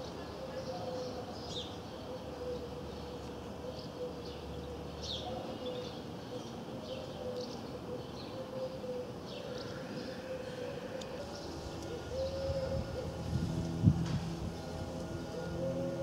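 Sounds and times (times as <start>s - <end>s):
propeller plane droning overhead: 0.0s - 16.0s.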